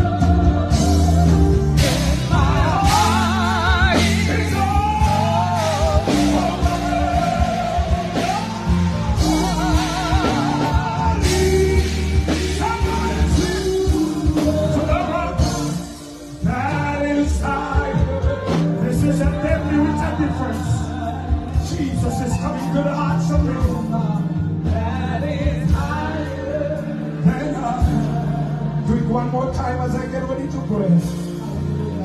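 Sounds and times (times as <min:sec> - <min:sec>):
band backing with bass line: 0:00.0 - 0:32.0.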